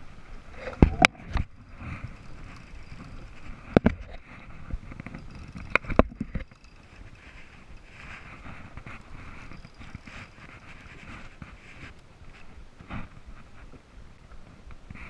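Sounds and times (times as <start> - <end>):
wind: 0.0 - 15.0
water noise: 0.4 - 12.8.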